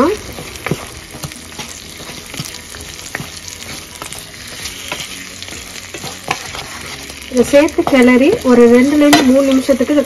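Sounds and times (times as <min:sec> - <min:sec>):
wooden spatula scraping pan: 0:00.0 - 0:09.8
gravy sizzling in a pan: 0:00.0 - 0:10.0.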